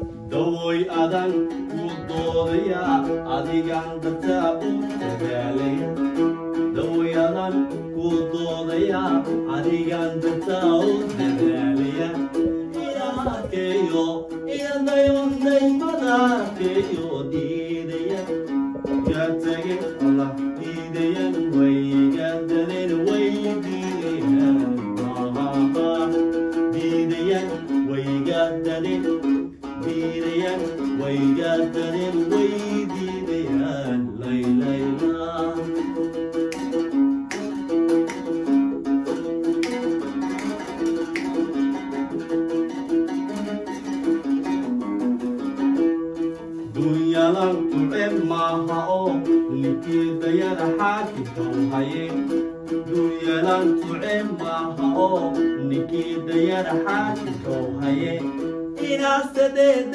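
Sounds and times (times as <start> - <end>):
man singing into a microphone: 0.0 - 36.4, 46.5 - 59.9
oud plucked: 0.0 - 59.9.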